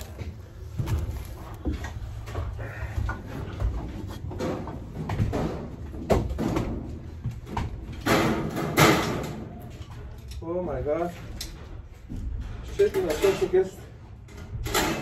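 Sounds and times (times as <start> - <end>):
rustling and crinkling of materials: 0.0 - 15.0.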